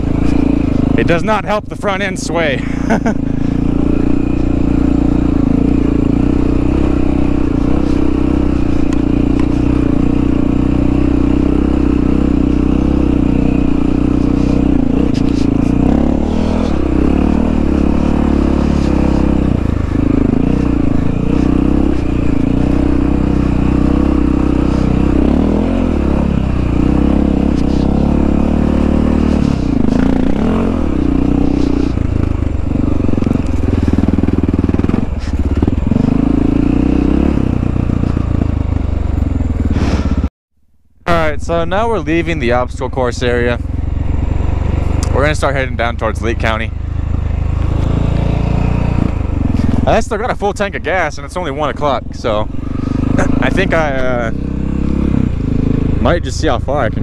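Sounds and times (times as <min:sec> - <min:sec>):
motorcycle engine running: 0:00.0 - 0:40.3, 0:40.9 - 0:57.0.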